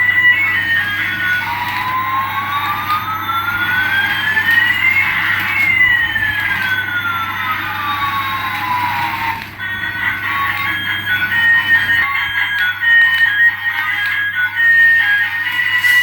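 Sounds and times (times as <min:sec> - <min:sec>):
electronic tones sliding in pitch: 0:00.0 - 0:12.1, 0:15.0 - 0:16.0.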